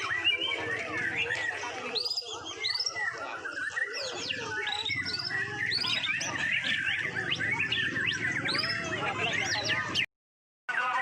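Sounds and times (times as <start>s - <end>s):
birds singing whistled phrases: 0.0s - 10.1s.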